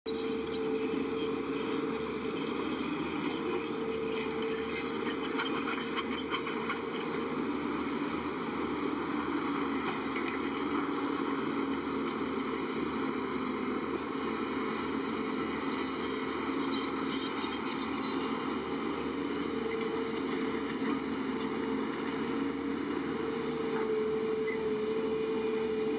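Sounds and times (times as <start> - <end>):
heavy diesel machinery running: 0.1 - 25.9.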